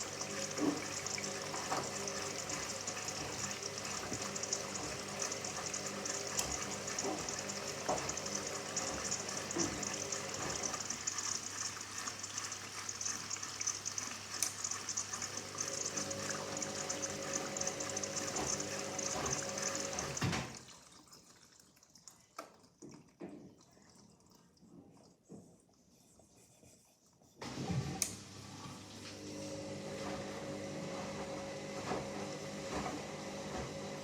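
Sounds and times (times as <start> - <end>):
water rushing into washing machine: 0.0 - 25.3, 27.4 - 34.0.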